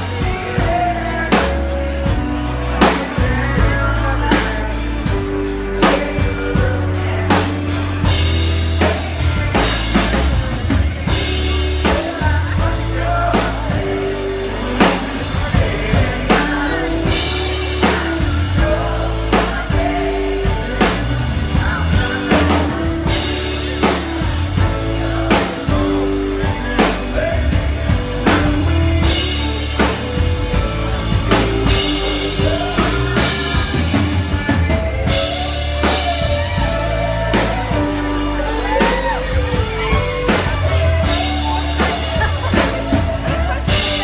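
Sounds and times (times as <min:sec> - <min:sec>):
country band playing: 0:00.0 - 0:44.0
man singing: 0:00.0 - 0:44.0.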